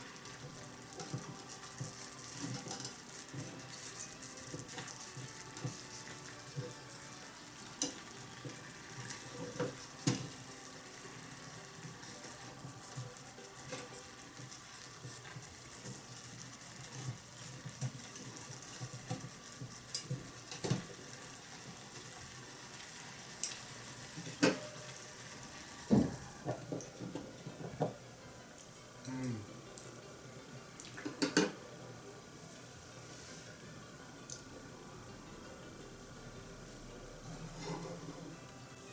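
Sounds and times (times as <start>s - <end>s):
pot sizzling and bubbling: 0.0s - 38.9s.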